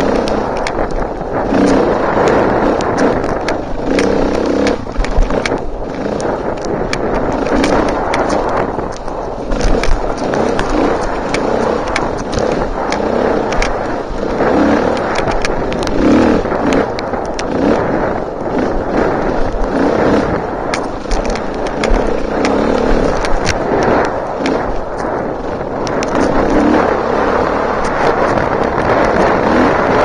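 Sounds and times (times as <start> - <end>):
bike knocking and rattling: 0.0 - 30.0
dirt bike engine revving: 0.0 - 30.0.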